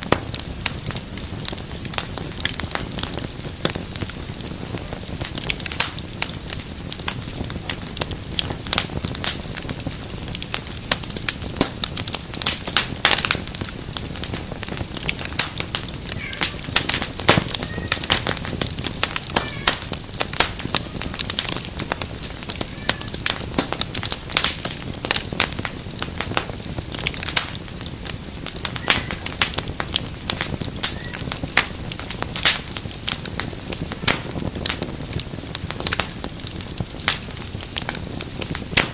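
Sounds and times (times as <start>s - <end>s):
soft hiss of flames: 0.0s - 38.9s
wood fire crackling and popping: 0.0s - 38.9s.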